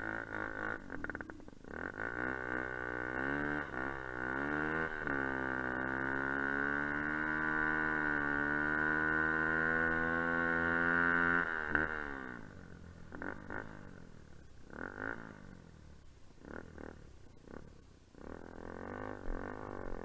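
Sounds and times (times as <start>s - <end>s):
dirt bike engine revving: 0.0s - 15.8s, 16.4s - 20.0s.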